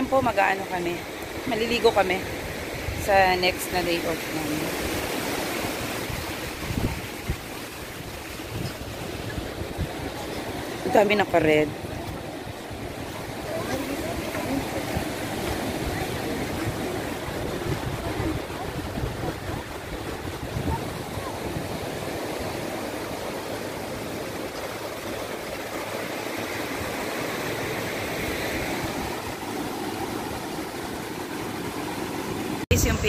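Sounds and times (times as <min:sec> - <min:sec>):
small waves breaking on beach: 0:00.0 - 0:33.0
wind rumbling on microphone: 0:00.0 - 0:33.0.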